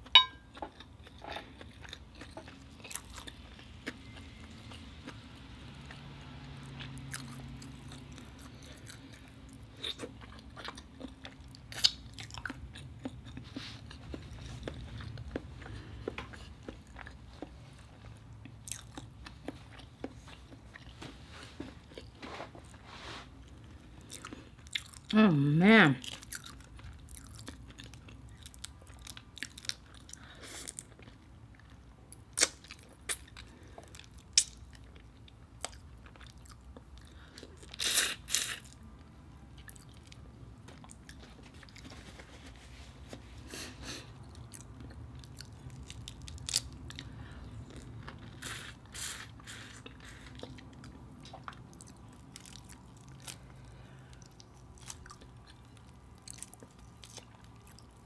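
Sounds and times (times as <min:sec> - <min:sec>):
chewing with crunches: 0:00.0 - 0:22.8, 0:23.4 - 0:25.2, 0:26.0 - 0:43.2, 0:43.8 - 0:58.0.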